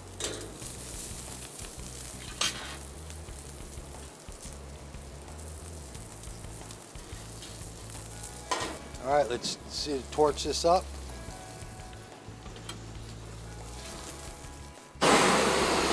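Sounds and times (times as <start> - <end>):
steak sizzling on grill: 0.0 - 15.9.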